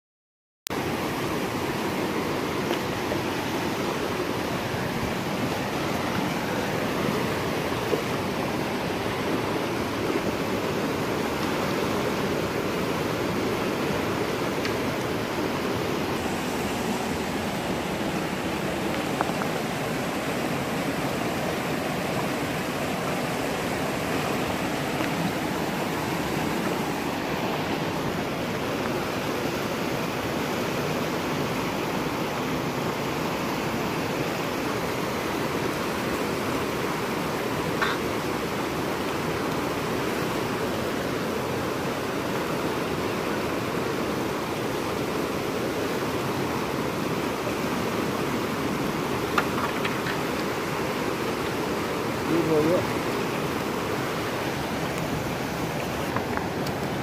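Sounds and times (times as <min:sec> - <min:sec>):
river rushing over rocks: 0:00.7 - 0:57.0.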